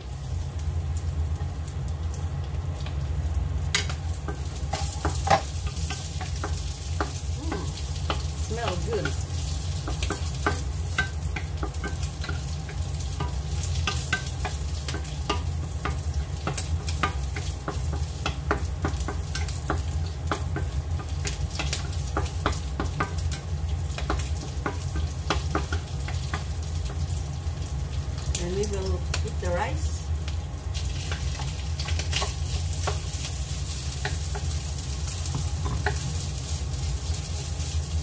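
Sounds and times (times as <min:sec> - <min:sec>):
food sizzling in oil: 0:00.0 - 0:38.0.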